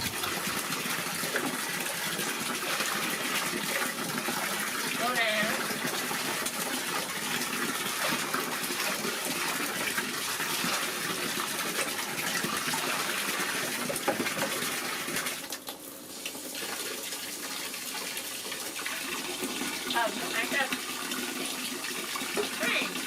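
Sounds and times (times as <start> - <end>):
tap water gushing into basin: 0.0 - 23.0.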